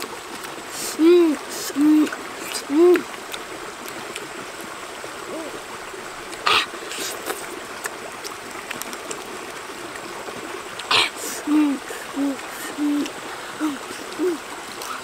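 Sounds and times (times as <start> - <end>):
stream running over rocks: 0.0 - 15.0.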